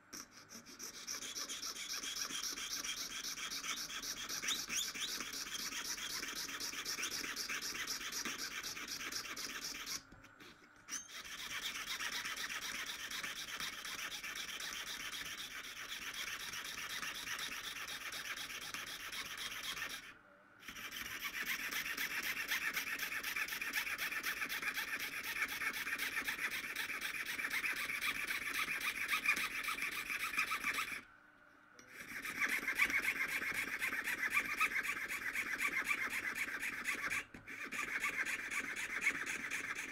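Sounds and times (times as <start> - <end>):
saw rasping through shell: 0.1 - 31.0, 31.8 - 39.9.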